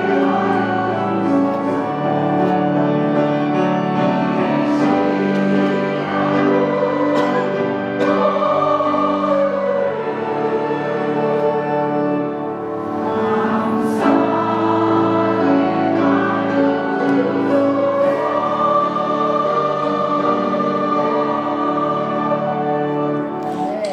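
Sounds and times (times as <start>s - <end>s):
choir singing a hymn: 0.0s - 23.9s.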